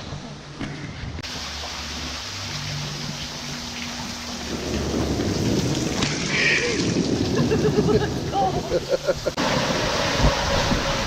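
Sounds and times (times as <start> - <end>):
water splashing: 1.2 - 11.0.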